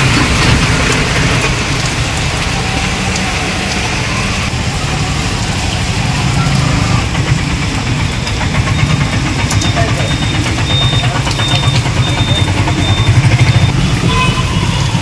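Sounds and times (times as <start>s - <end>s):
auto-rickshaw engine passing: 0.0s - 15.0s
rain hissing: 0.0s - 15.0s.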